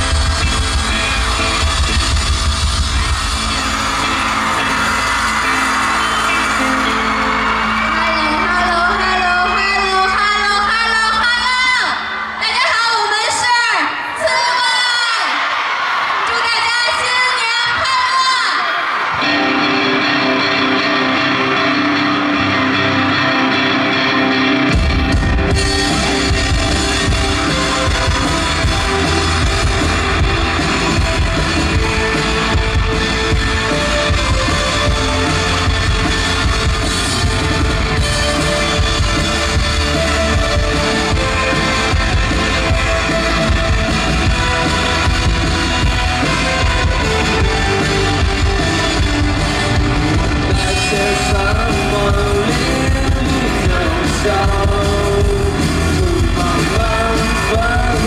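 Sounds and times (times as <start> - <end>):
live rock band music: 0.0 - 14.8, 18.8 - 58.0.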